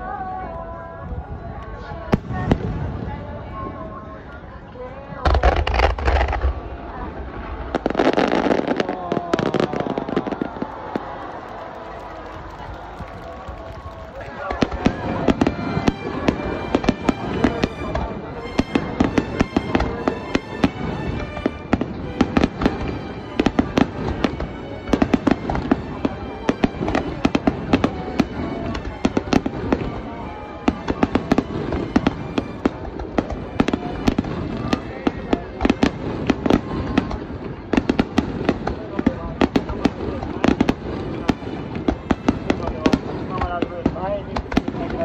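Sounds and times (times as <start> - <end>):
fireworks bursting: 4.8 - 45.0.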